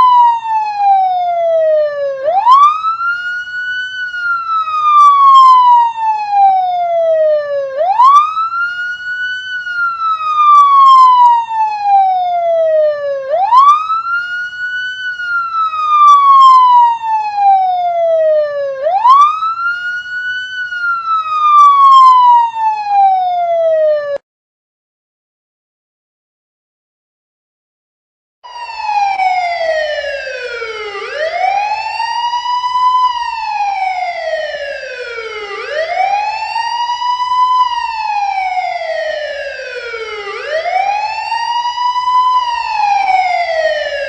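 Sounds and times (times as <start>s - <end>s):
police siren wailing: 0.0s - 24.2s, 28.4s - 44.0s.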